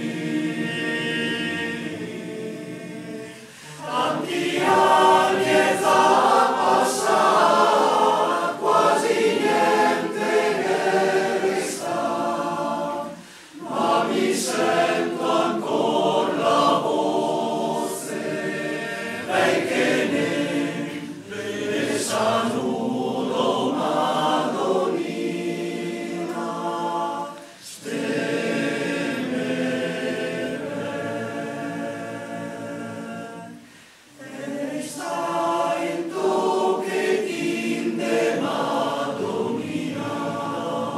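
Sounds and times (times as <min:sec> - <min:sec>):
male choir singing: 0:00.0 - 0:40.9.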